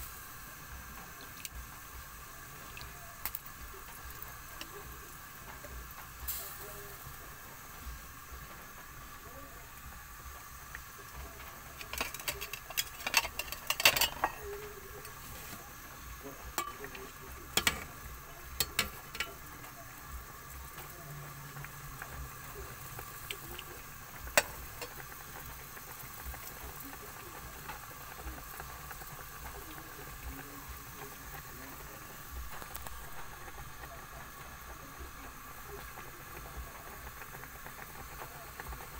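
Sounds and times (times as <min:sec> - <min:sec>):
soup boiling and bubbling: 0:00.0 - 0:38.9.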